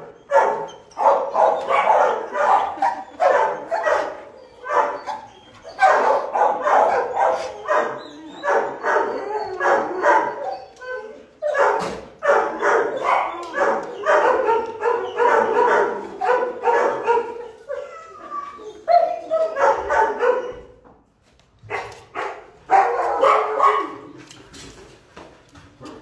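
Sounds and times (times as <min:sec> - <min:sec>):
dogs barking: 0:00.0 - 0:10.6, 0:11.4 - 0:17.8, 0:18.9 - 0:20.7, 0:21.7 - 0:24.1.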